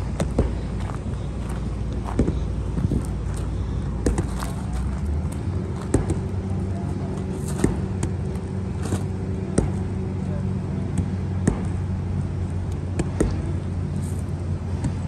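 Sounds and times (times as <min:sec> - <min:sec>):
crane engine humming: 0:00.0 - 0:15.0.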